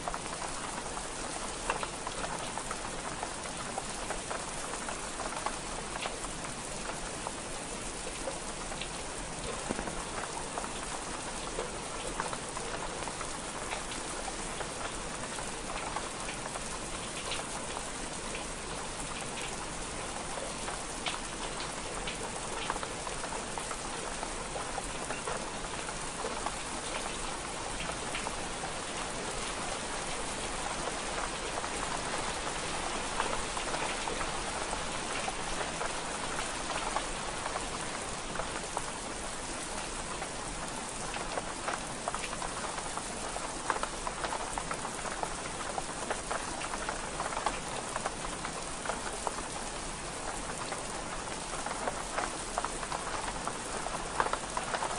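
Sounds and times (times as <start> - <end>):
sharp raindrop ticks: 0.0 - 7.0, 8.1 - 54.9
rain on window glass: 0.0 - 54.9.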